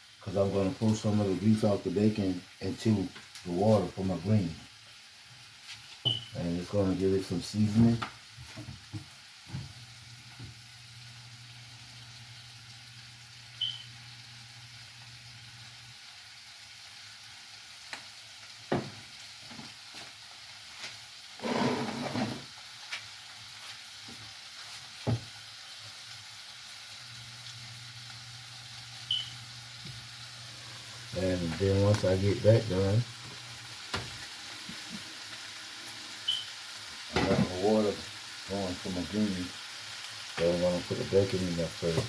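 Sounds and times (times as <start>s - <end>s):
bacon sizzling in a pan: 0.0s - 42.0s.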